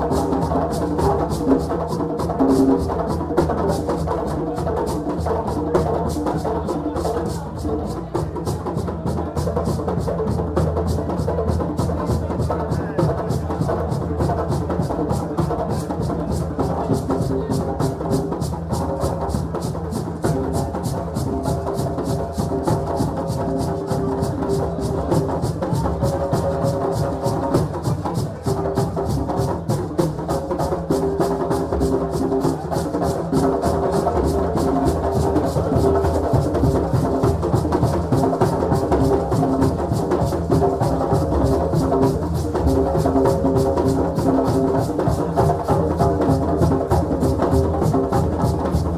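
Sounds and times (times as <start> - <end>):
fast percussion drumming: 0.0 - 48.9.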